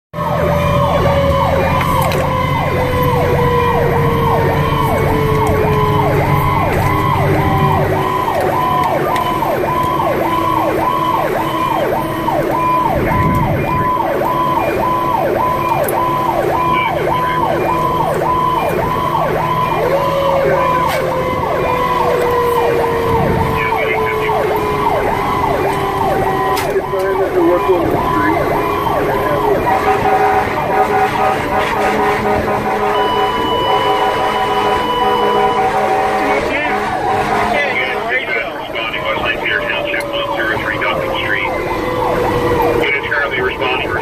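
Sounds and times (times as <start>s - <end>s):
fire engine siren yelp: 0.1s - 44.0s
siren wail sliding in pitch: 0.2s - 44.0s
truck engine rumble: 0.2s - 44.0s.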